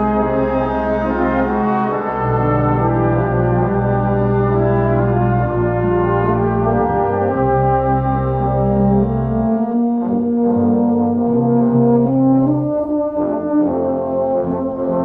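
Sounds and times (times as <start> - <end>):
brass band playing held chords: 0.0 - 15.0.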